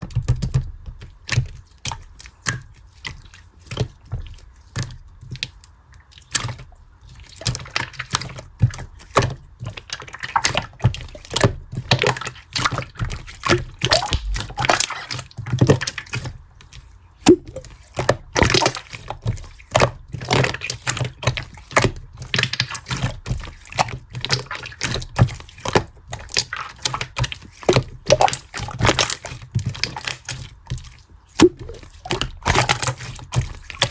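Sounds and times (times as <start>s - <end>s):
slime squishing with wet pops: 0.0s - 33.9s.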